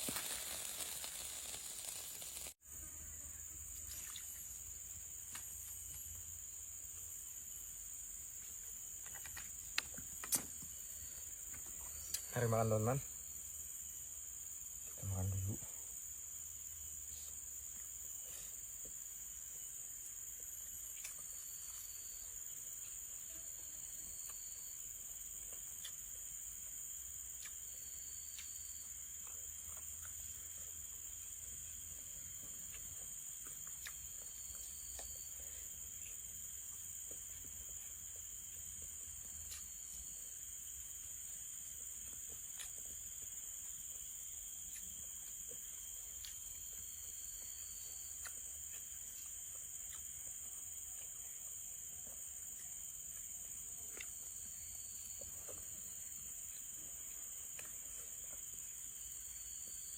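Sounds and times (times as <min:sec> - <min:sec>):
insect chirps: 0:00.0 - 0:59.9
insects high-pitched trill: 0:00.0 - 0:59.9
low insect buzz: 0:00.0 - 0:59.9.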